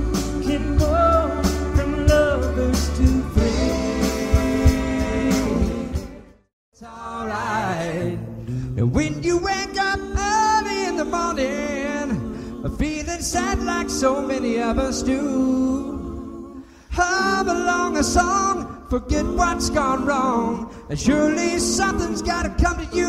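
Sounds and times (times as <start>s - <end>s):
group singing a cappella: 0.0s - 23.0s.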